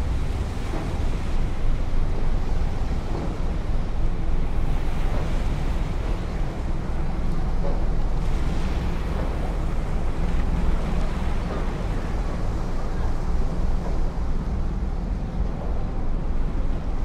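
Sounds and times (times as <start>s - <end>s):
wind and water rushing: 0.0s - 17.0s.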